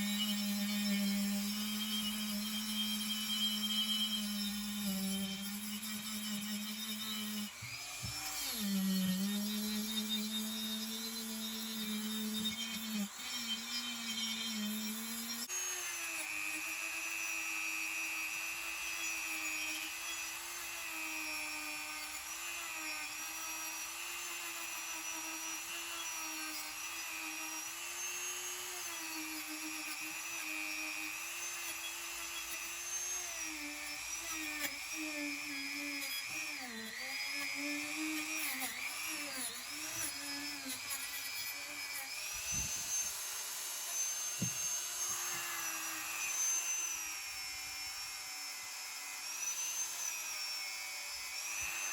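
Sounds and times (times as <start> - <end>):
electric rotary tool whining: 0.0 - 51.9.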